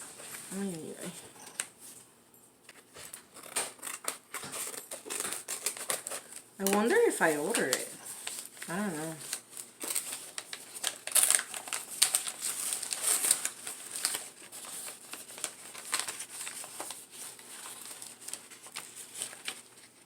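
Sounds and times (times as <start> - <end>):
packaging crinkling: 2.8 - 20.0.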